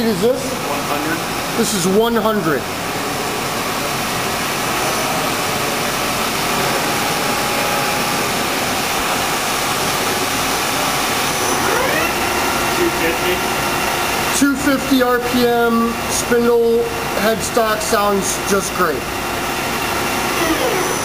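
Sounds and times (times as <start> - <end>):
lathe spindle running: 0.0 - 21.0
rising machine whine: 0.0 - 21.0.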